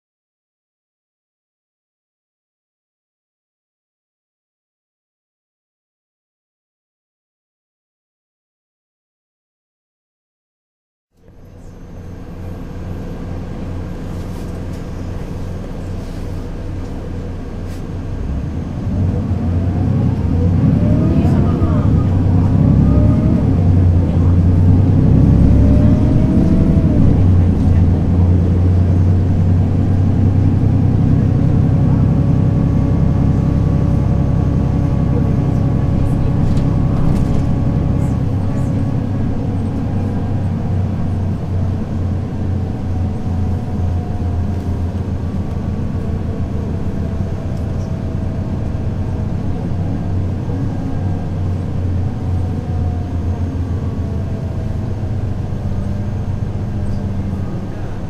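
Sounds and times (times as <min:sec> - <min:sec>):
bus diesel engine running: 0:11.2 - 0:58.0.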